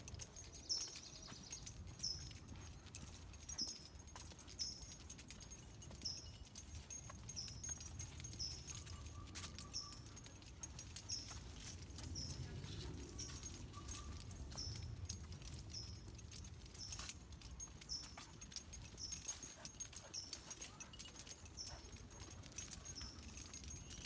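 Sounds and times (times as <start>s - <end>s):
dog leash jingling: 0.0s - 24.0s.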